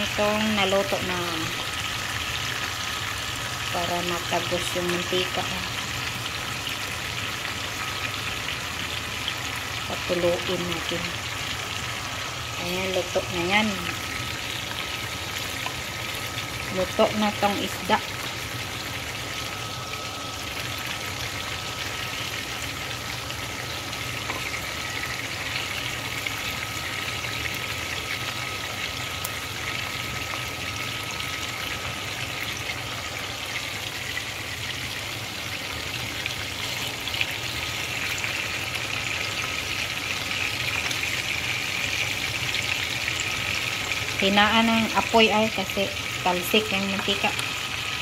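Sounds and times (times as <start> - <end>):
fish sizzling in hot oil: 0.0 - 48.0.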